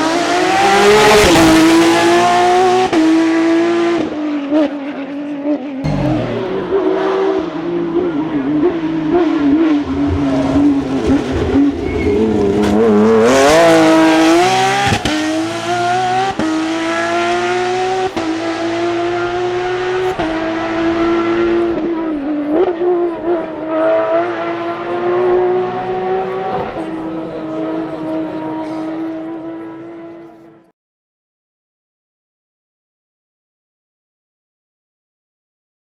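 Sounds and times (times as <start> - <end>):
rally car engine revving hard: 0.0 - 30.5.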